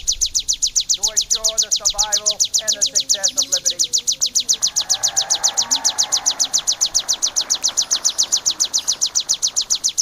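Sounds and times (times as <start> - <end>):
bird calling in high notes: 0.0 - 10.0.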